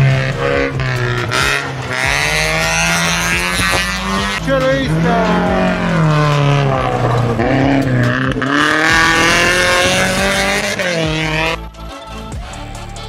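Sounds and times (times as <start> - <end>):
rally car engine at full throttle: 0.0 - 13.0.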